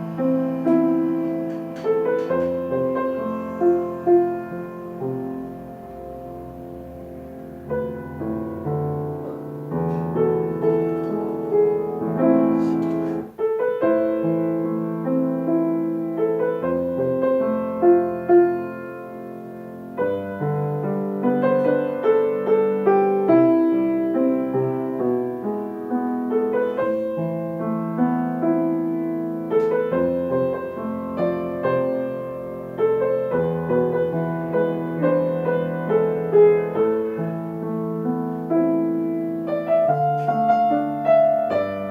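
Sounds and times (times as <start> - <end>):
slow solo piano: 0.0 - 41.9.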